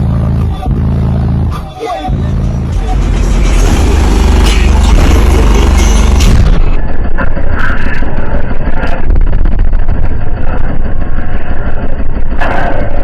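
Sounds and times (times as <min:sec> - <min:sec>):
loud heavy bass from subwoofers: 0:00.0 - 0:13.0.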